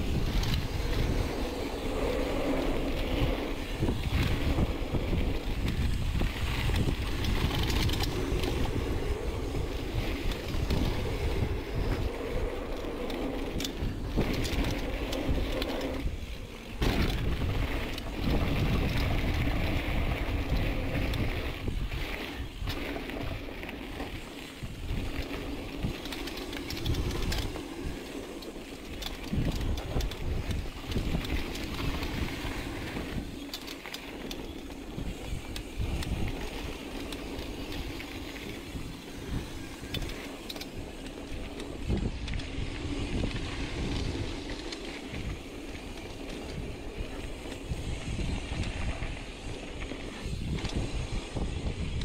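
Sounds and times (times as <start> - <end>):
tyres rolling over dirt: 0.0 - 52.0
wind buffeting microphone: 0.0 - 52.0
bike knocks and rattles: 3.0 - 52.0.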